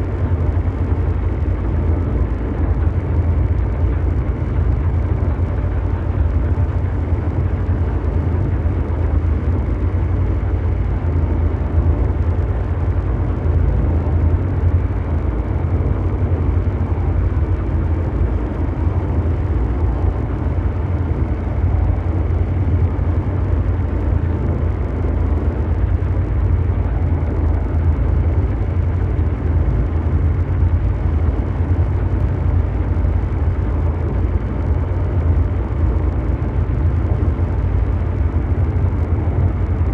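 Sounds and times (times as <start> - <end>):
deep mechanical rumble: 0.0 - 39.9.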